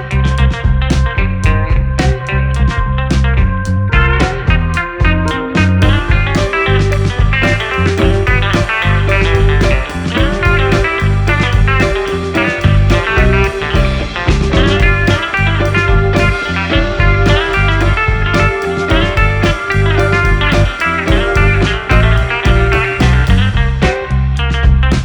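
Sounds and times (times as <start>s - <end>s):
guitar-led rock music: 0.0s - 25.0s.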